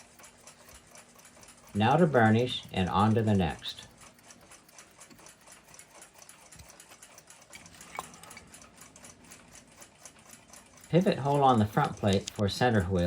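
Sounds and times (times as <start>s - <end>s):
fast mechanical ticking: 0.0s - 13.0s.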